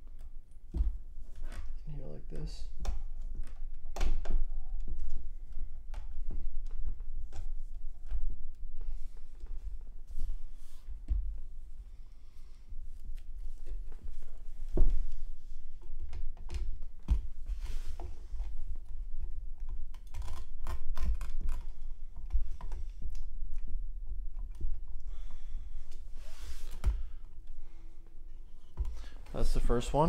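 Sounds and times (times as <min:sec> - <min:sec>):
cable bundle rustling: 0:00.1 - 0:30.0.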